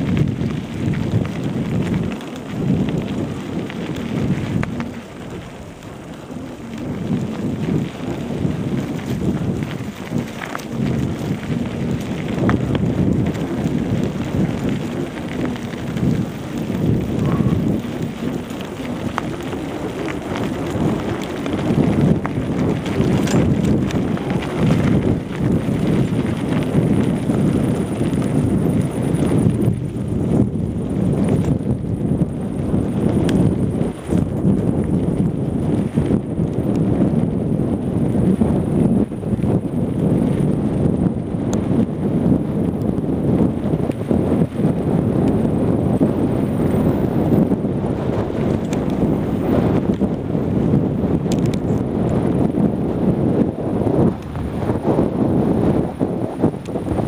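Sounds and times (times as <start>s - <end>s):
bicycle clattering and knocking: 0.0s - 42.0s, 42.7s - 52.7s
bike rattling over rough ground: 0.0s - 57.0s
wind buffeting microphone: 0.0s - 57.0s.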